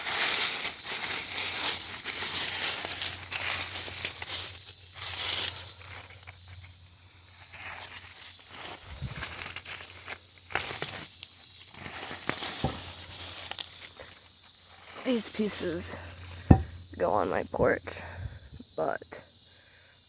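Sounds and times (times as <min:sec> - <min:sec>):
weeds rustling and crackling: 0:00.0 - 0:17.4
high insect chirring: 0:00.0 - 0:20.0.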